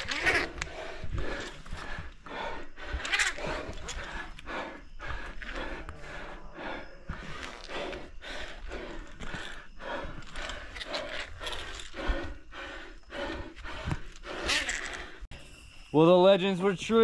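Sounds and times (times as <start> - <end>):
person panting: 0.0 - 15.3.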